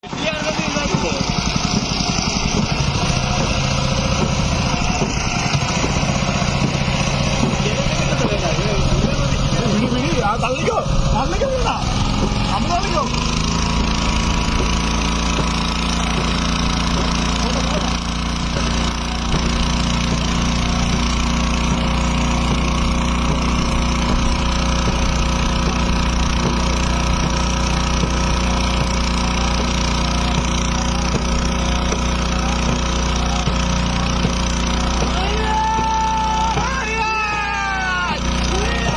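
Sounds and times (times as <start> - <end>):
engine running steadily: 0.0 - 38.9
voices: 0.0 - 38.9.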